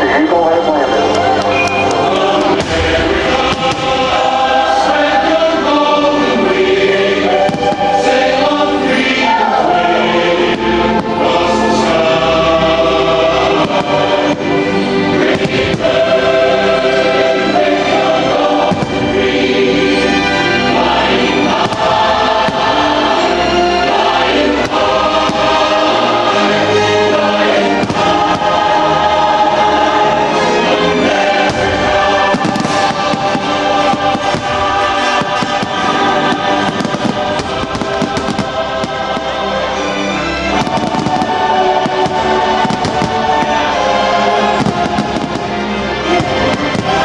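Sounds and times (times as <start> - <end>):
choir singing over music: 0.0 - 47.0
firework bangs: 2.0 - 9.4, 13.3 - 39.7, 40.5 - 47.0.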